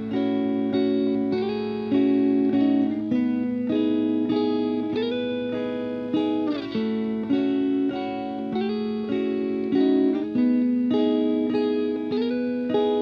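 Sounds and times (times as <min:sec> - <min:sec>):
instrumental guitar music: 0:00.0 - 0:13.0.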